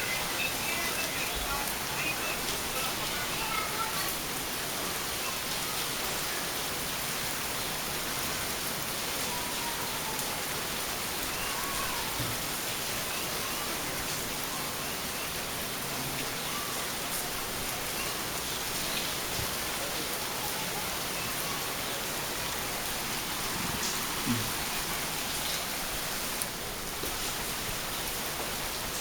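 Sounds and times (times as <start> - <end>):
steady rain pattering: 0.0 - 29.0.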